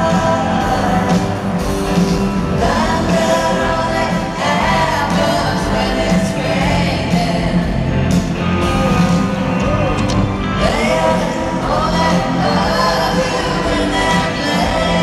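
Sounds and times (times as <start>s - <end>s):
woman singing lead vocal: 0.0s - 8.4s, 10.5s - 15.0s
live rock band playing: 0.0s - 15.0s.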